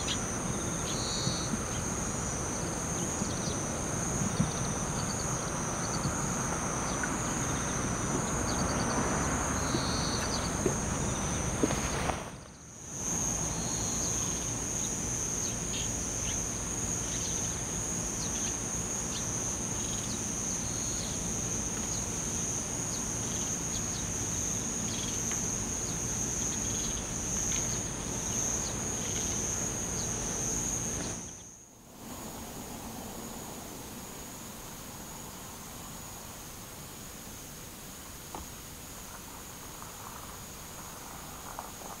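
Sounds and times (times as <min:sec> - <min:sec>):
insects chirring: 0:00.0 - 0:42.0.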